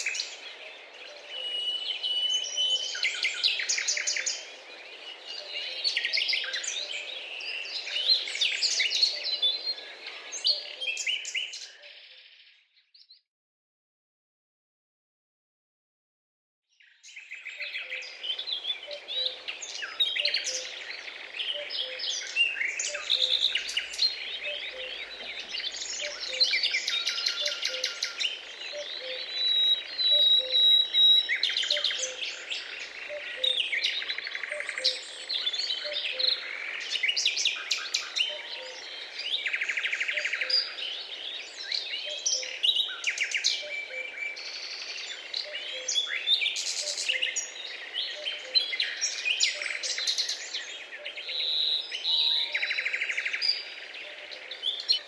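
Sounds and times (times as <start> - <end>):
small birds chirping: 0.0 - 13.2, 16.7 - 55.0.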